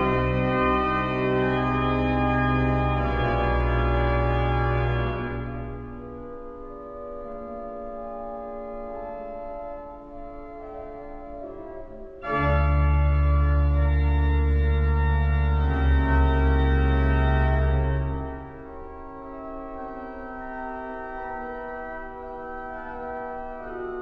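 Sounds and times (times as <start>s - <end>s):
pipe organ chords: 0.0s - 24.0s.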